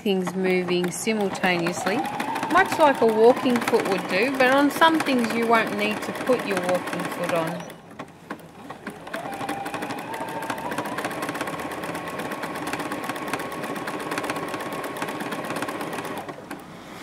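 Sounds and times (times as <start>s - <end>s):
sewing machine motor whine: 0.0s - 16.7s.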